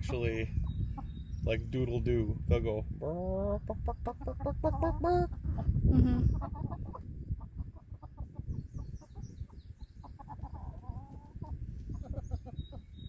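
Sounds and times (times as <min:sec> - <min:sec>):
young chickens clucking: 0:00.0 - 0:13.0.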